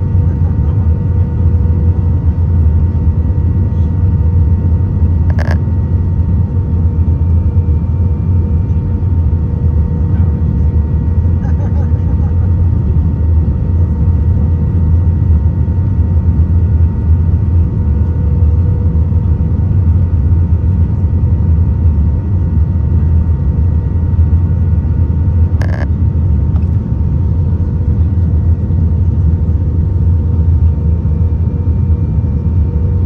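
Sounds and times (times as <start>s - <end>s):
engine and airflow rumble: 0.0s - 33.0s
faint steady hum: 0.0s - 33.0s.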